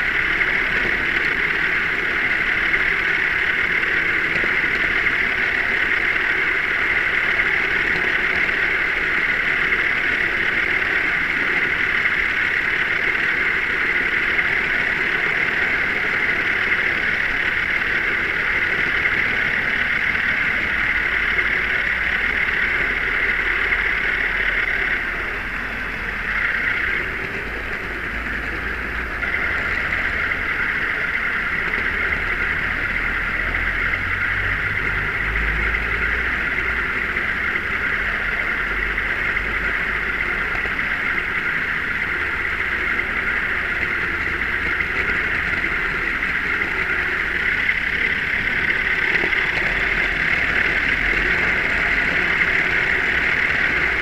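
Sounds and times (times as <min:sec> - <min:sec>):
model wagon wheels rolling on rails: 0:00.0 - 0:54.0.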